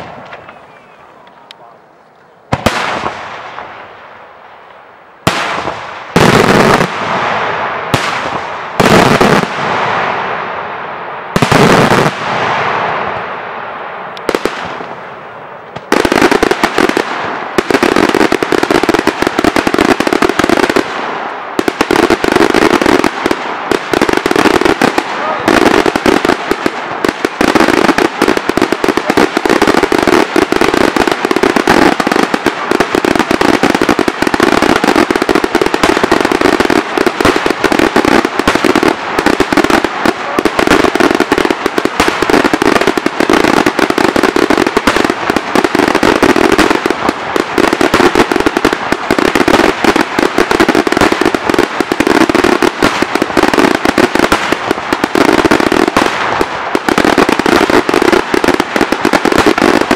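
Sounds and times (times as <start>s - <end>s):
fireworks barrage with crackle: 0.0s - 59.9s.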